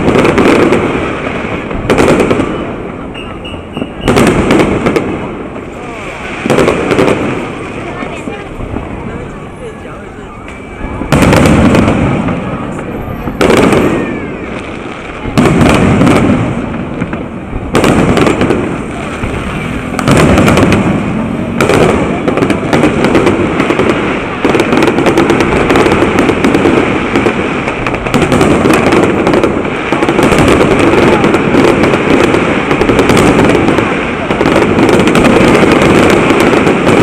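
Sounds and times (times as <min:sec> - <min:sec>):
firework booms: 0:00.0 - 0:37.0
firework crackling: 0:00.0 - 0:37.0.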